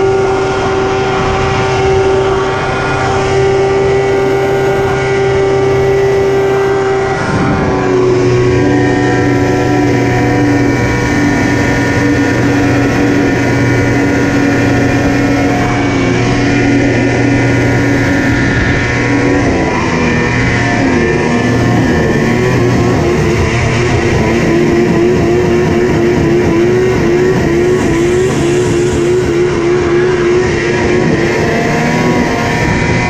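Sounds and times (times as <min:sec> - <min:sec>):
snowmobile engine at high revs: 0:00.0 - 0:33.0.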